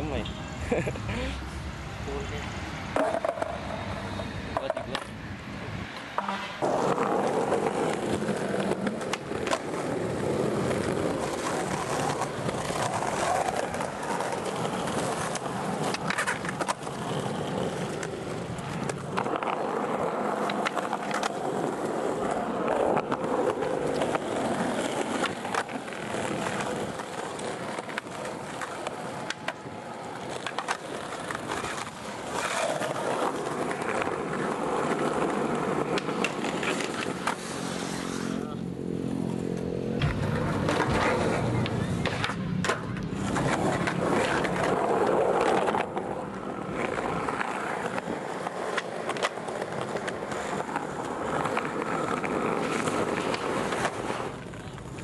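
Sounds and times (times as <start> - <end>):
skateboard wheels rolling on concrete: 0.0 - 55.0
skateboard clacking on ground: 2.9 - 3.8, 4.5 - 5.2, 5.9 - 38.4, 39.2 - 55.0.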